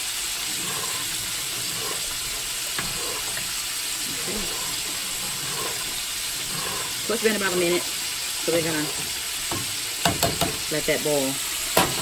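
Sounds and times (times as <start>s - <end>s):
chicken deep-frying in oil: 0.0s - 12.0s
water boiling in a pot: 0.0s - 12.0s
metal spoon stirring pasta: 0.1s - 10.0s.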